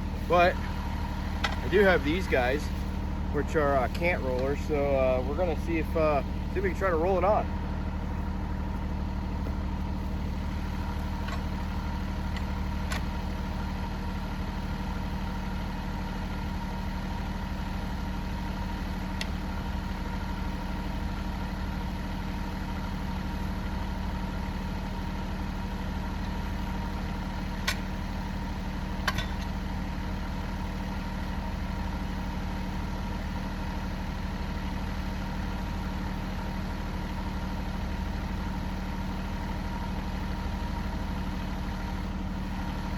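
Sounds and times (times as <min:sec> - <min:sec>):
machine engine idling: 0:00.0 - 0:42.9.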